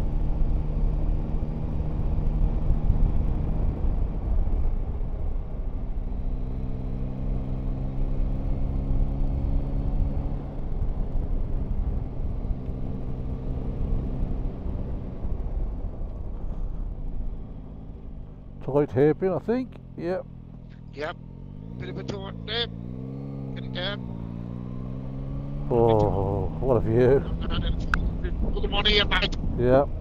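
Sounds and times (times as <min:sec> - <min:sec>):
low wind rumble: 0:00.0 - 0:30.0.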